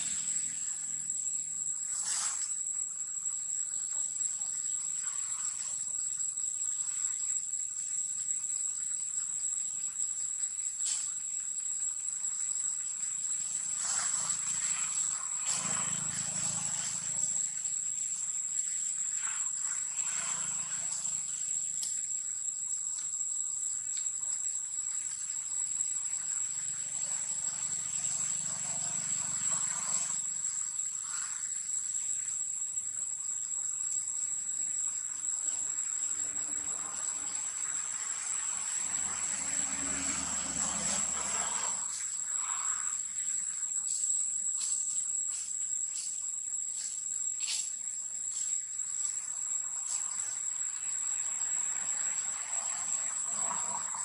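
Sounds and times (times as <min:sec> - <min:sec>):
insects singing: 0:00.0 - 0:54.0.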